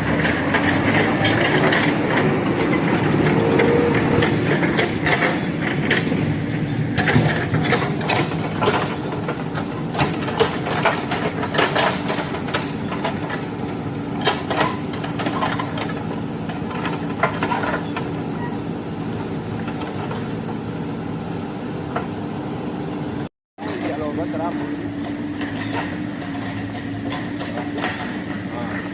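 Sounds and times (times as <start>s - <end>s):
metallic clanks and knocks: 0.0s - 18.5s, 23.6s - 28.9s
diesel engine running: 0.0s - 28.9s.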